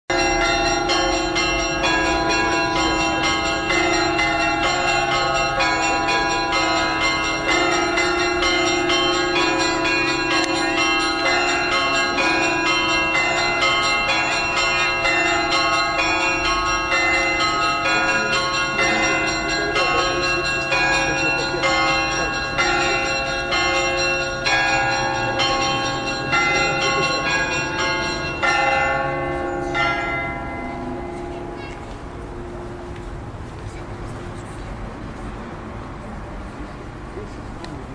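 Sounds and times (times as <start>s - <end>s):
deep large bell ringing: 0.1s - 33.3s
small church bells ringing rhythmically: 0.1s - 37.9s.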